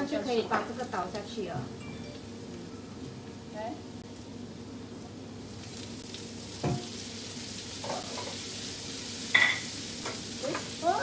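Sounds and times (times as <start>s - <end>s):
beans sizzling in hot oil: 0.0s - 11.0s.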